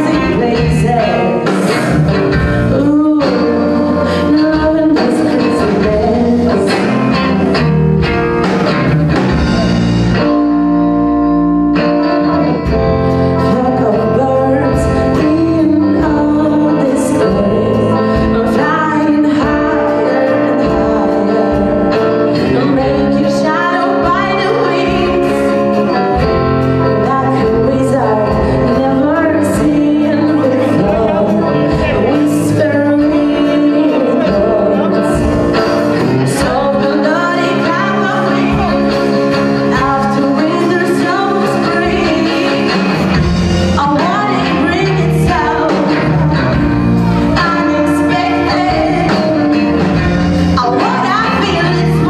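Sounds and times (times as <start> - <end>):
female lead vocals: 0.0 - 7.6, 12.2 - 52.0
bass guitar: 0.0 - 52.0
drum kit: 0.0 - 52.0
electric guitars: 0.0 - 52.0.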